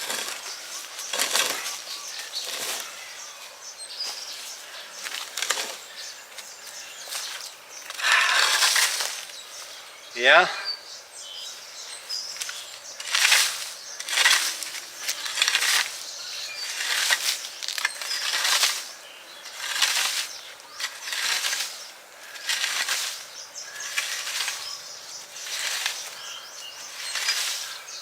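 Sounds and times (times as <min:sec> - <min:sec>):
digging tool scraping soil: 0:00.0 - 0:03.4, 0:04.0 - 0:09.5, 0:12.1 - 0:28.0.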